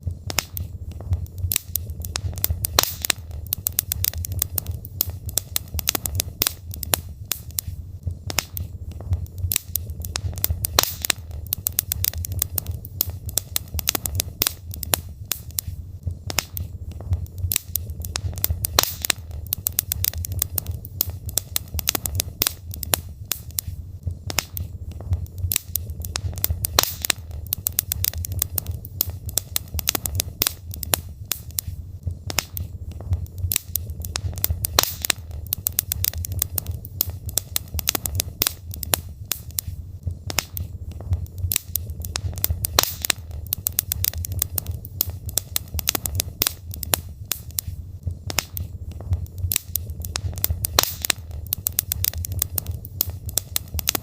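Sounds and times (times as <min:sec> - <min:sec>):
logs crackling and popping: 0:00.0 - 0:54.0
low rumble of fire: 0:00.0 - 0:54.0.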